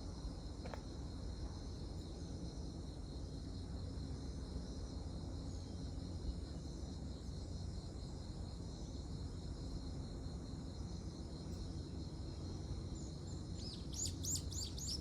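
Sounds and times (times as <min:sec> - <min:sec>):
insects trilling: 0:00.1 - 0:15.0.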